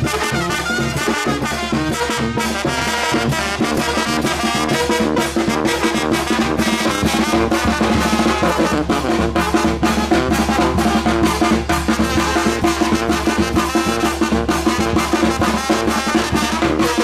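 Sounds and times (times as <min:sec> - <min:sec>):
steady drum beat: 0:00.0 - 0:17.0
trumpets and trombones: 0:00.0 - 0:17.0.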